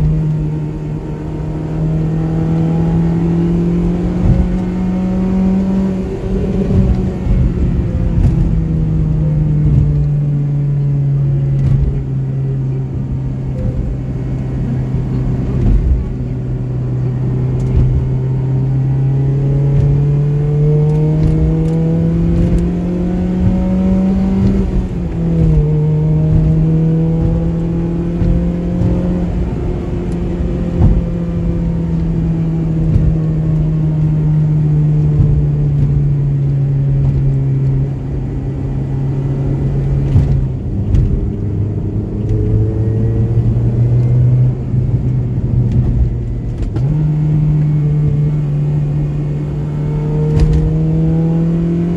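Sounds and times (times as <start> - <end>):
car engine at speed: 0.0 - 51.9.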